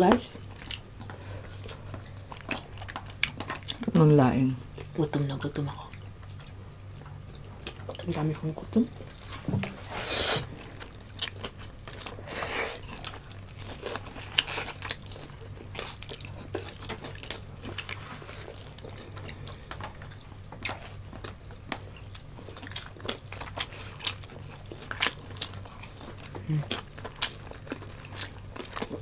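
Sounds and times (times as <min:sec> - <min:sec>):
steady low hum: 0:00.0 - 0:29.0
chewing and smacking: 0:00.1 - 0:03.9, 0:05.7 - 0:29.0.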